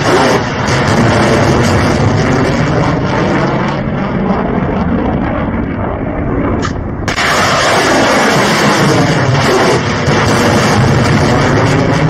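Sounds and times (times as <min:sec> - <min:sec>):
rocket motor roaring: 0:00.0 - 0:12.0.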